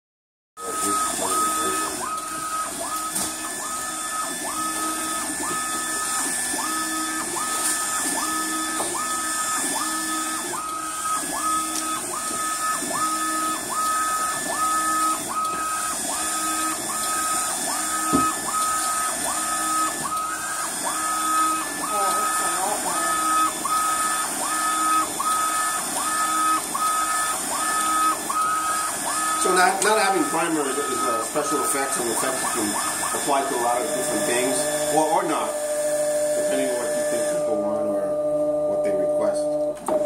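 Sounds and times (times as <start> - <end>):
printer carriage drive whining: 0.6 - 40.0.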